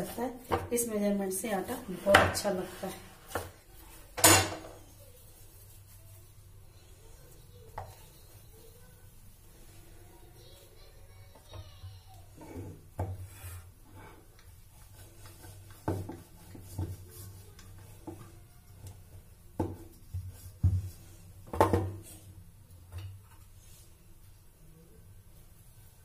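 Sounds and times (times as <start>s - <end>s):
rolling pin rubbing dough: 0.0s - 4.1s, 4.7s - 11.6s, 12.2s - 22.3s.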